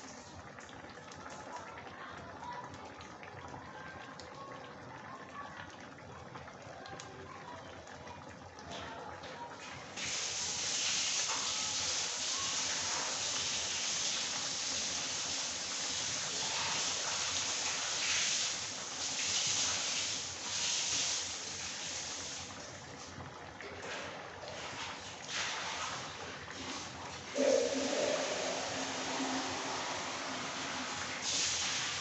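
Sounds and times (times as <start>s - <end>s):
lentils boiling and bubbling: 0.0s - 32.0s.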